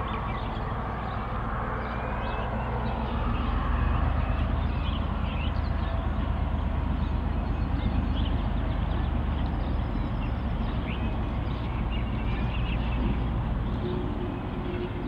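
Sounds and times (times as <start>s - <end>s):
diesel locomotive drone: 0.0s - 15.0s.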